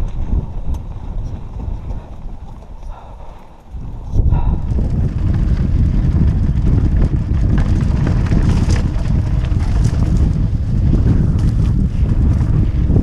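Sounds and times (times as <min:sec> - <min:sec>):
bike clicks and rattles: 0:00.0 - 0:13.0
wind buffeting microphone: 0:00.0 - 0:13.0.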